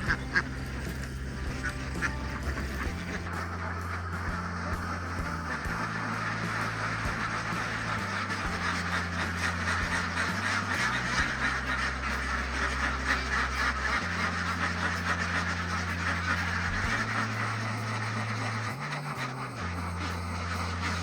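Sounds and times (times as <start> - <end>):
background music with low notes: 0.0 - 21.0
ducks quacking: 0.0 - 21.0.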